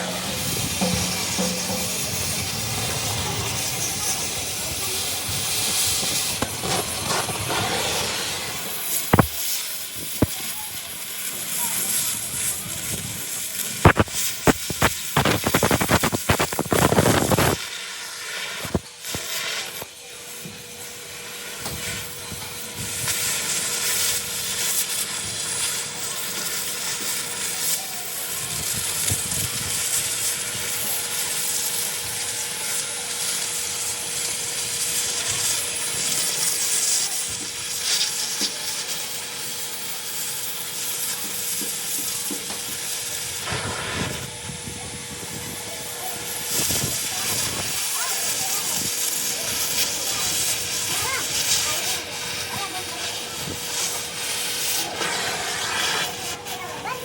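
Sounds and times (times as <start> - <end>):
loud rapid crackling clatter: 0.0 - 19.9, 22.8 - 57.0
welding arc hissing and sizzling: 0.0 - 57.0.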